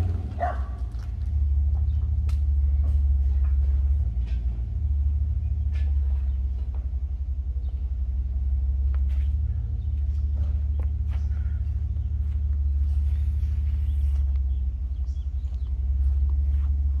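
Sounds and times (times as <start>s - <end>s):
engine rumbling at low speed: 0.0s - 17.0s.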